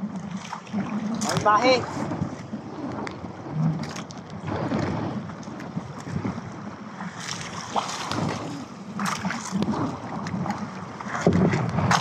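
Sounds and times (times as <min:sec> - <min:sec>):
sea washing against boat: 0:00.0 - 0:12.0
wind buffeting microphone: 0:00.0 - 0:12.0.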